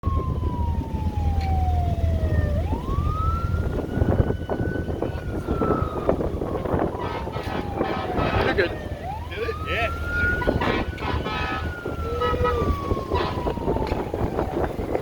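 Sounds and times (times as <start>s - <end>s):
fire truck siren wailing: 0.0s - 15.0s
low rumble of engines: 0.0s - 15.0s.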